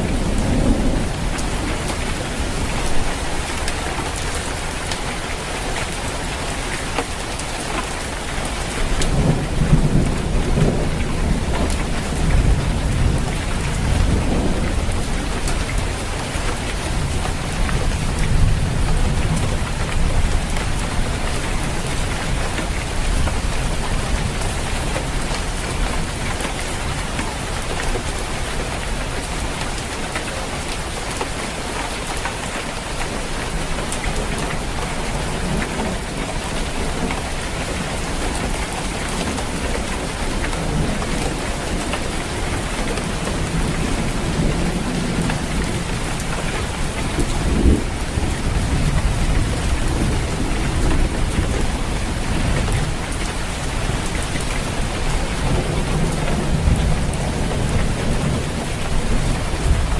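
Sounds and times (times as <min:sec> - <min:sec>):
low rolling thunder: 0:00.0 - 0:07.3, 0:07.9 - 0:26.3, 0:33.5 - 0:59.9
rain falling on a roof: 0:00.0 - 0:59.9.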